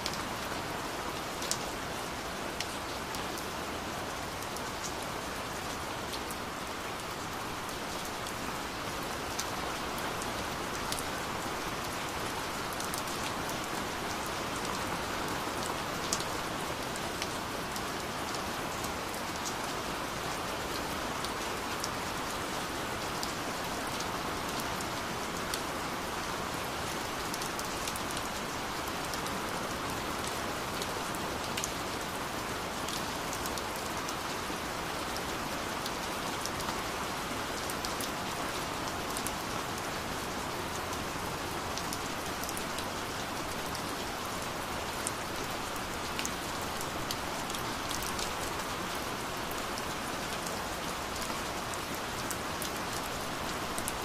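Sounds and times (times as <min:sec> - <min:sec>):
gentle rain hiss: 0:00.0 - 0:54.0.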